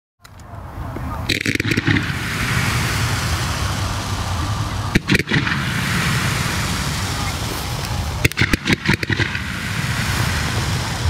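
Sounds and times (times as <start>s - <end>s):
crowd chattering: 0.2s - 11.0s
low rumble: 0.6s - 11.0s.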